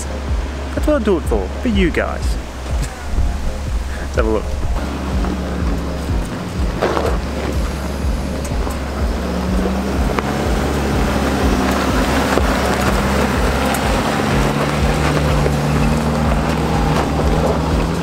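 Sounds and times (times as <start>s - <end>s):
vehicle engine running at low speed: 0.0s - 18.0s
wind buffeting microphone: 0.0s - 18.0s.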